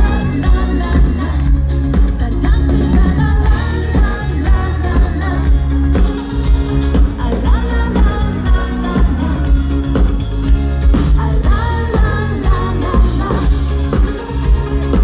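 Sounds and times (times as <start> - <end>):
band with thumping beat: 0.0 - 15.0
woman singing: 0.0 - 15.0.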